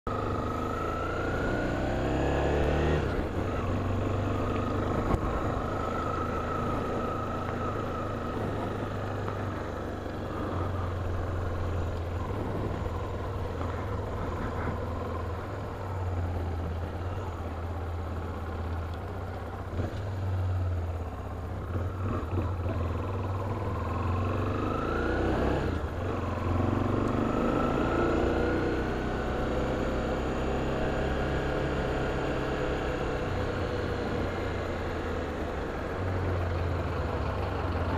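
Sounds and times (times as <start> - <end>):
road noise: 0.0 - 37.9
vehicle engine hum: 0.0 - 37.9.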